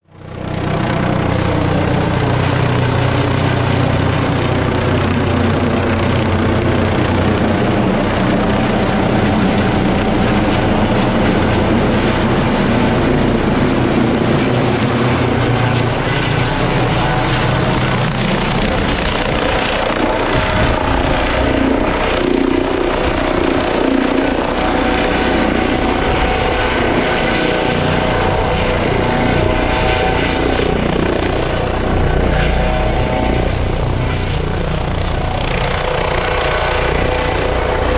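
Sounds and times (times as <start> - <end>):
helicopter rotors and turbine: 0.0 - 37.9.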